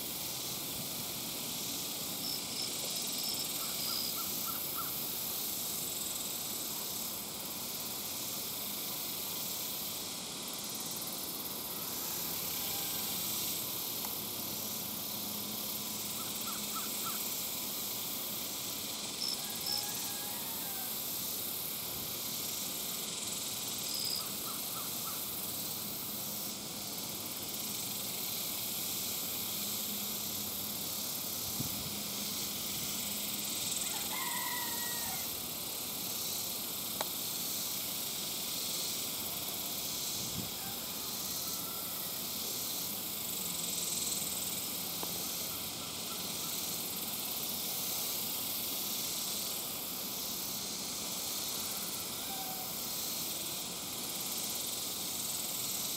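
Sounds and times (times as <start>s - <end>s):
insect chorus hiss: 0.0s - 55.9s.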